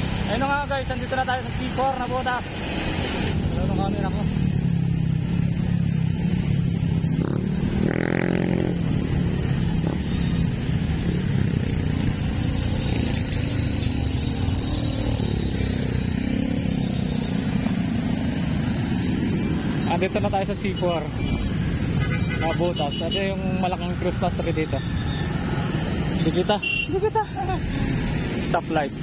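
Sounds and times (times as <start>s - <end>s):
road and wind noise: 0.0s - 29.0s
surrounding motorcycles and tricycles: 0.0s - 29.0s.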